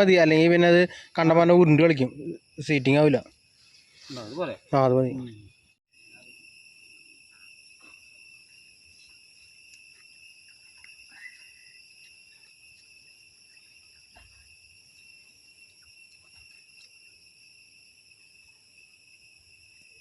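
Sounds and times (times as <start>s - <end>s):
insect chorus buzzing: 0.0s - 20.0s.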